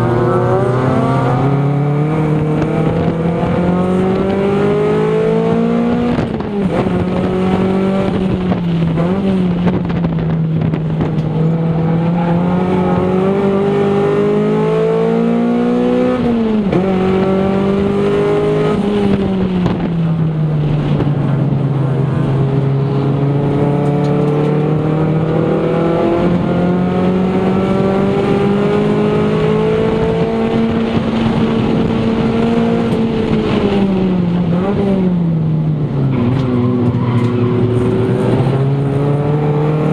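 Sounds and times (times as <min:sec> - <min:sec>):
car engine revving hard: 0:00.0 - 0:19.8, 0:20.8 - 0:35.3, 0:35.9 - 0:39.9.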